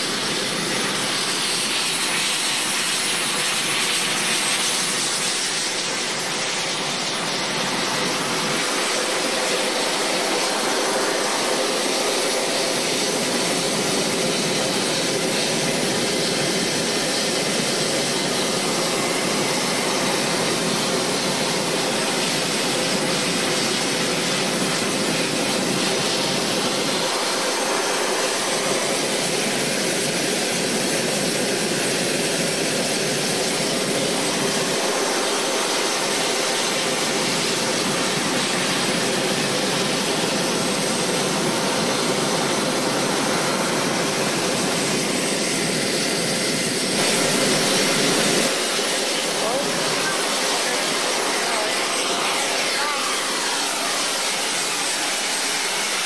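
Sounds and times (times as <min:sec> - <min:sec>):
high turbine whine: 0:00.0 - 0:56.0
turboprop engines roaring: 0:00.0 - 0:56.0.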